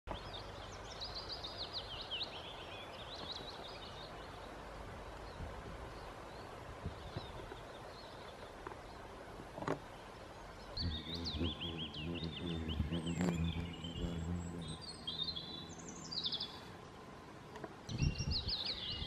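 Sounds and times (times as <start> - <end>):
small birds chirping: 0.1 - 19.0
steady background hiss: 0.1 - 19.0.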